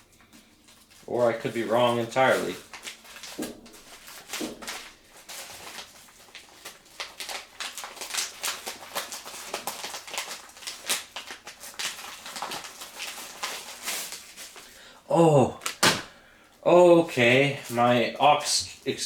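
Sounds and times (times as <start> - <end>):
plastic packaging crinkling: 0.1 - 19.0.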